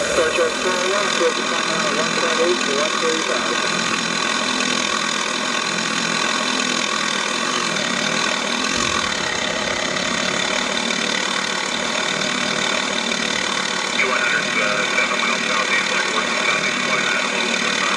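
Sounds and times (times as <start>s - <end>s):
model helicopter whine: 0.0s - 17.9s.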